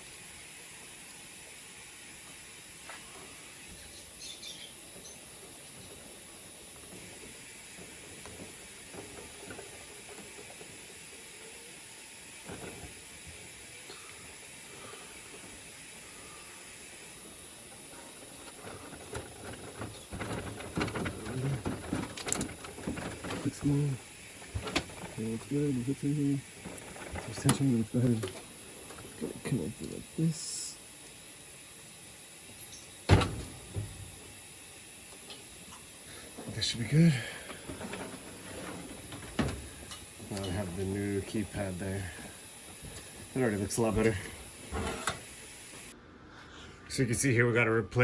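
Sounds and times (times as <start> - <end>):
steady hiss: 0.0 - 48.0.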